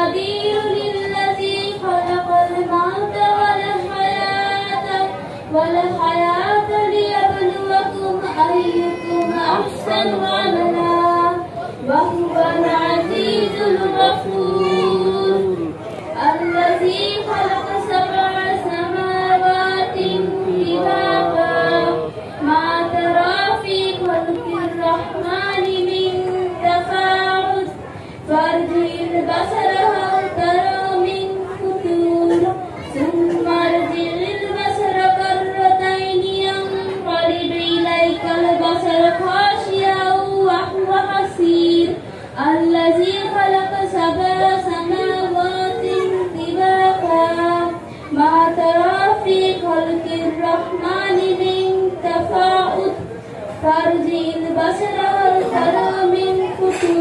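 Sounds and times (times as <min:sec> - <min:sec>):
girl chanting melodically: 0:00.0 - 0:57.0.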